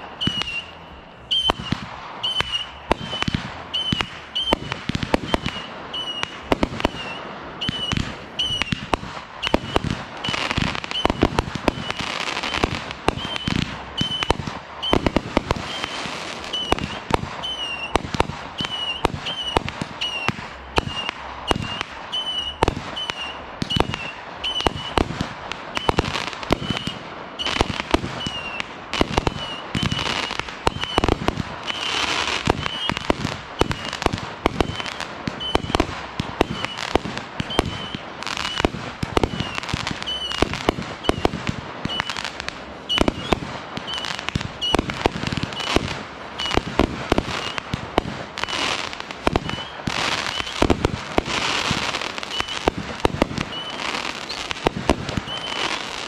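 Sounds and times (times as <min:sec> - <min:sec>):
crackling pops: 0:00.0 - 0:56.0
firework bursting bangs: 0:00.0 - 0:56.0.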